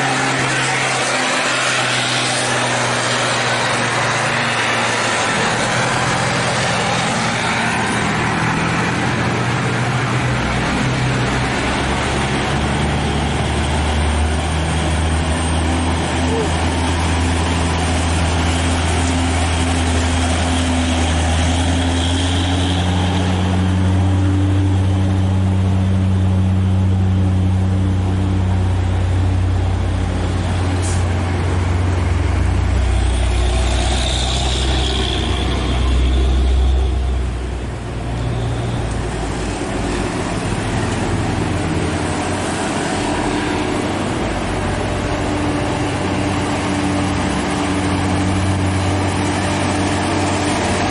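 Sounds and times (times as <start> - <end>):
diesel truck engine labouring: 0.0 - 50.9.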